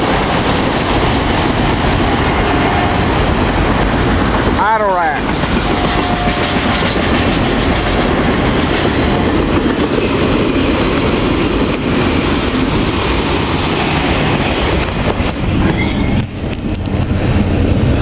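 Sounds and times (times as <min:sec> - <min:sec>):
sharp clacks of train wheels: 0:00.0 - 0:18.0
train wheels rumbling on rails: 0:00.0 - 0:18.0.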